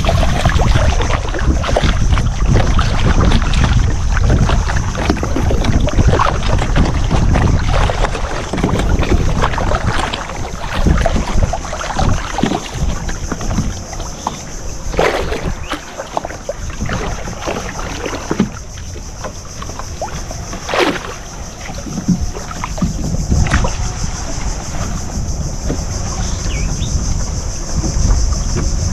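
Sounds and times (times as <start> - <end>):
boat engine: 0.0 - 28.9
water noise: 0.0 - 28.9
wind buffeting microphone: 0.0 - 28.9.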